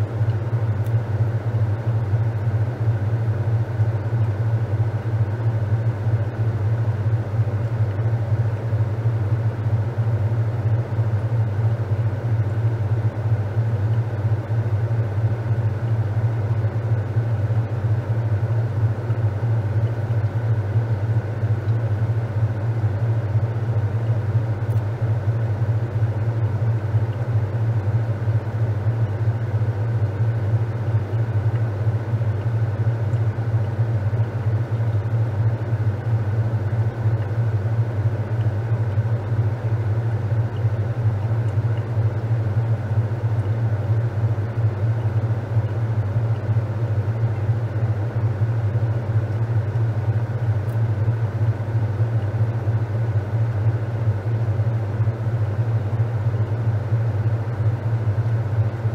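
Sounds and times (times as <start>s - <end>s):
washing machine humming: 0.0s - 58.9s.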